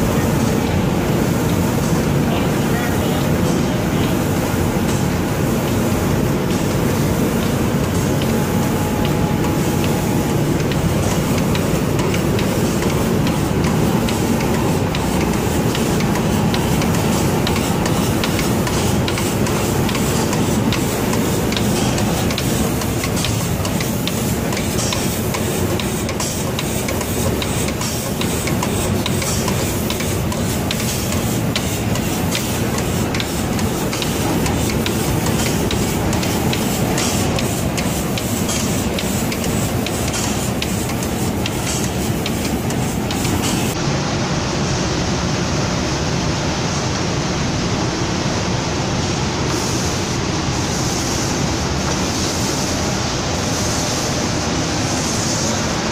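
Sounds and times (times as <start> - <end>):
spray guns hissing: 2.9 - 43.8, 49.5 - 55.8.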